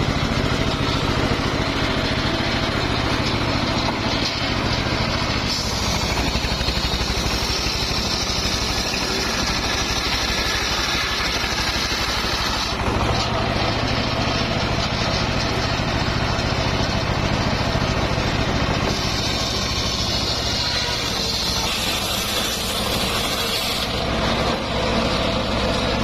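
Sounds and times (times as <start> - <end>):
circular sawmill sawing wood: 0.0 - 26.0.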